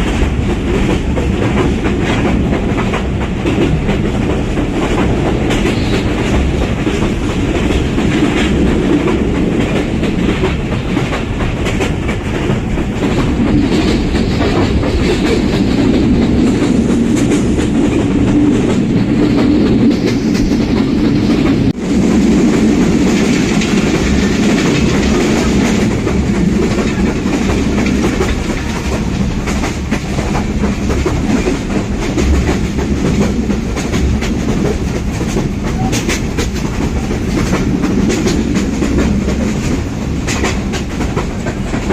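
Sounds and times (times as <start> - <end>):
train wheels rumbling on rails: 0.0 - 41.9
wheels clacking over rail joints: 0.0 - 41.9.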